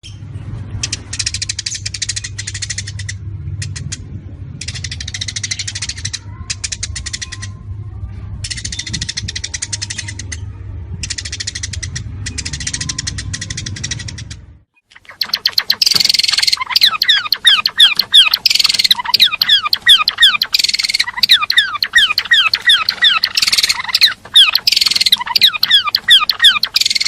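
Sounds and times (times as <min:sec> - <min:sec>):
steady low hum: 0:00.0 - 0:27.0
songbird rattling trills: 0:00.8 - 0:04.0, 0:04.6 - 0:07.6, 0:08.4 - 0:27.0.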